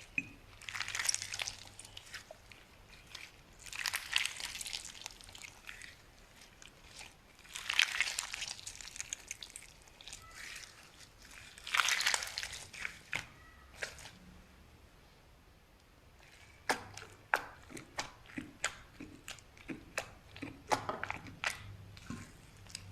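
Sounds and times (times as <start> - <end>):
slime crackling and popping: 0.0 - 14.2, 16.2 - 22.9.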